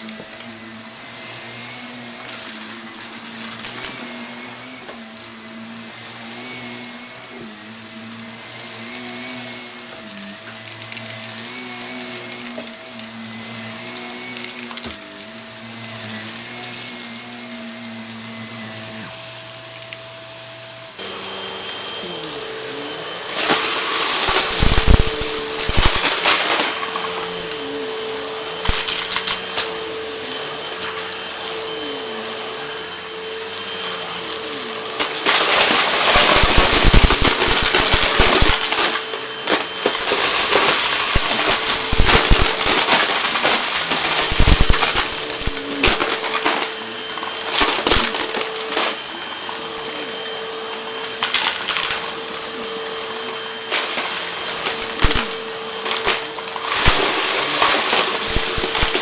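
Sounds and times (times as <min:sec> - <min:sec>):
debris crunching in vacuum: 0:00.0 - 0:20.0, 0:21.0 - 0:59.0
vacuum cleaner motor: 0:00.0 - 0:59.0.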